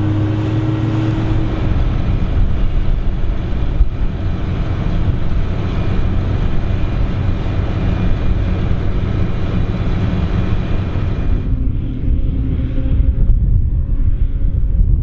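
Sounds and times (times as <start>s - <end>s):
forage harvester engine rumble: 0.0s - 15.0s.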